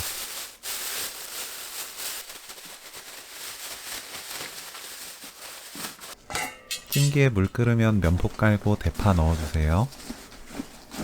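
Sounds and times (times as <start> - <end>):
plastic bag rustling and crackling: 0.0 - 6.3, 7.3 - 11.0.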